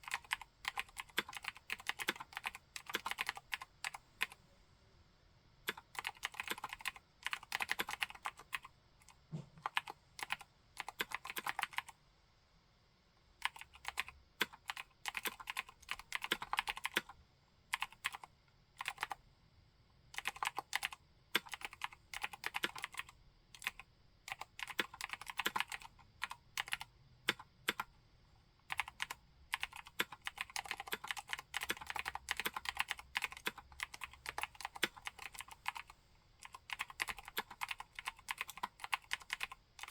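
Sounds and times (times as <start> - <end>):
mechanical keyboard typing: 0.0 - 4.4, 5.7 - 12.0, 13.4 - 19.2, 20.2 - 27.9, 28.7 - 39.9.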